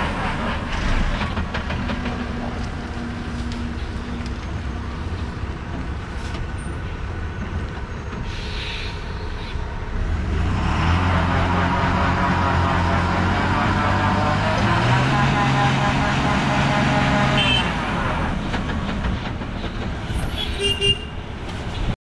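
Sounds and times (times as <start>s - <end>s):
lorry diesel engine labouring: 0.0s - 21.9s.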